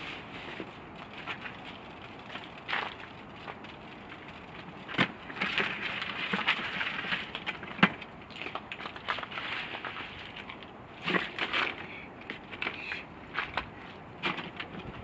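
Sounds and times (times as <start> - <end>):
ice cubes crunching and clattering: 0.4 - 13.7.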